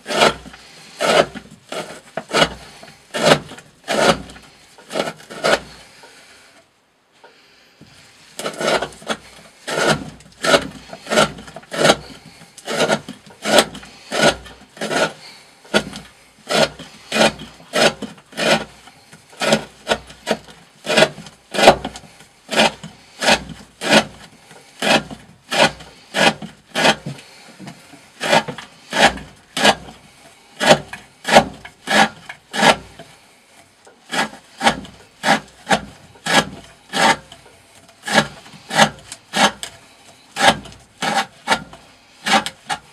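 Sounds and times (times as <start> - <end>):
knife cutting rope on wooden board: 0.0 - 6.2, 7.8 - 33.2, 34.1 - 42.9.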